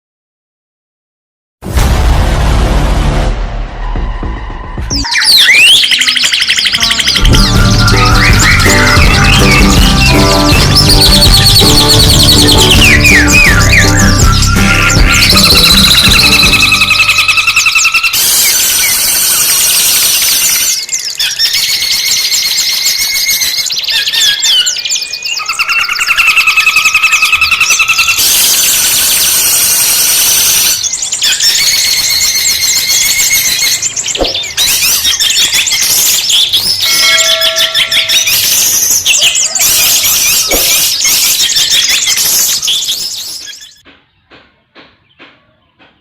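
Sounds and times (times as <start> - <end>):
bird singing chattering trills: 5.0 - 43.8.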